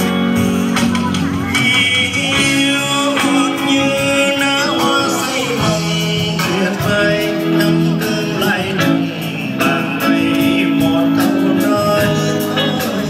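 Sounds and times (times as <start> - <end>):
amplified music with singer: 0.0 - 13.0.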